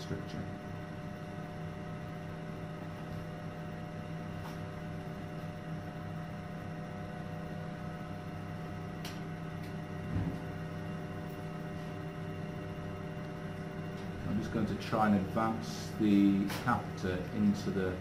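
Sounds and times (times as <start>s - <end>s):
equipment hum with tones: 0.0s - 18.0s.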